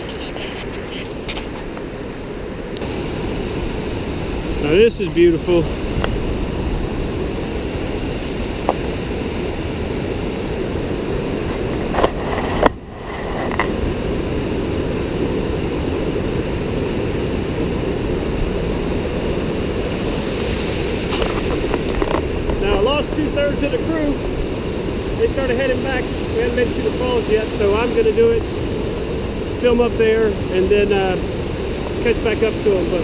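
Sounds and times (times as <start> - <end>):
river and waterfall roar: 0.0 - 33.0.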